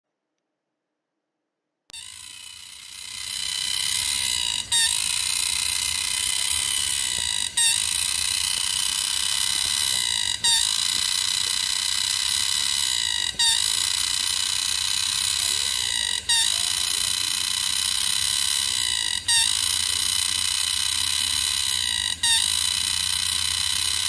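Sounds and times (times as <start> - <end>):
cicada buzzing shrilly: 2.0 - 24.0.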